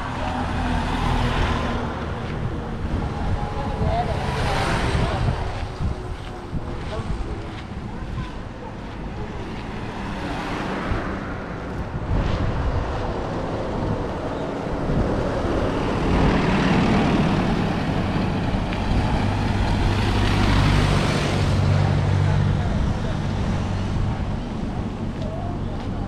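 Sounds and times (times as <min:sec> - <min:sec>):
vehicle engine and tyre noise: 0:00.0 - 0:26.0.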